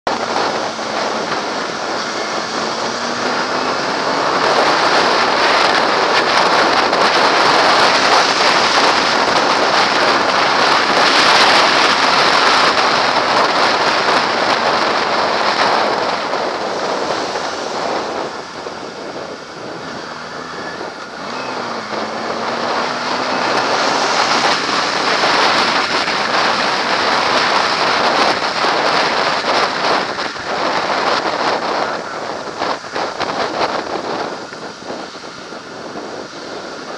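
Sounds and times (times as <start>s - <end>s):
wind rushing over helmet: 0.1s - 36.9s.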